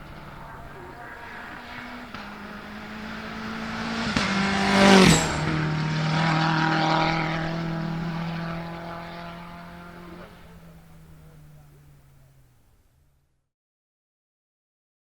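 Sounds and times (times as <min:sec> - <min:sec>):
race car passing at speed: 0:00.0 - 0:12.6.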